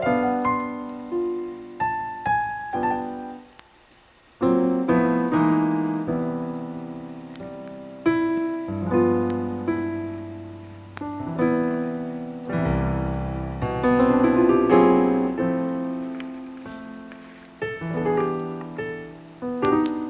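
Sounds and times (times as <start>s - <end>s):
slow solo piano: 0.0s - 20.0s.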